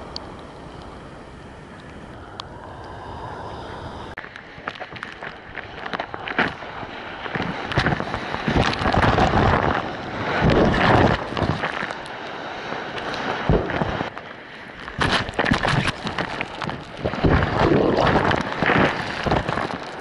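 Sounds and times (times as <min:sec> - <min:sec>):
ocean whitewater rushing and splashing: 0:00.0 - 0:20.0
wind buffeting microphone: 0:00.0 - 0:20.0.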